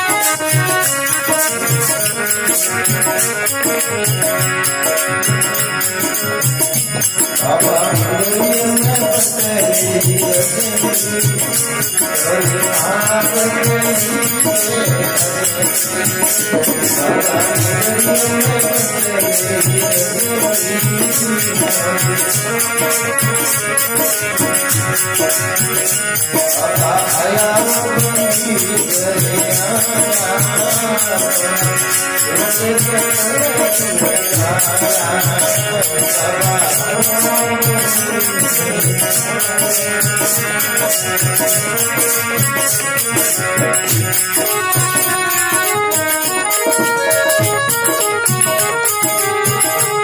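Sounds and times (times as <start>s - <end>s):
keyboard melody: 0.0s - 50.0s
rattling percussion beat: 0.0s - 50.0s.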